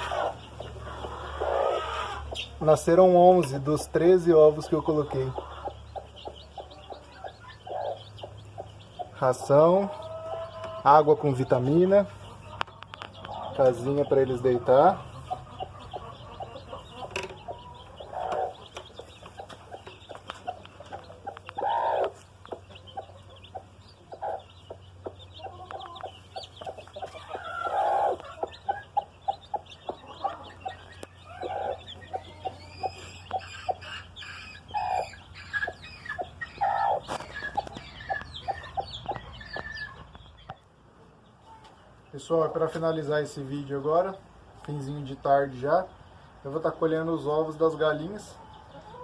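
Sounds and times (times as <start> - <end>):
hen clucking: 0.0 - 45.9, 46.5 - 49.0
chicks peeping: 0.0 - 49.0.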